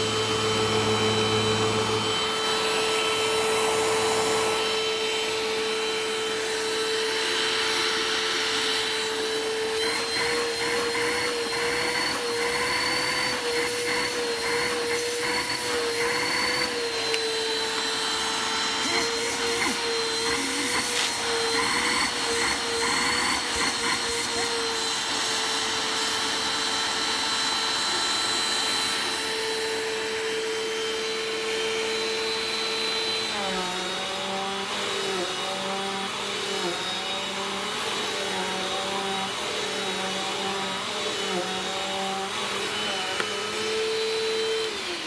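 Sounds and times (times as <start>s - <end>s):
vacuum cleaner motor whine: 0.0s - 45.0s.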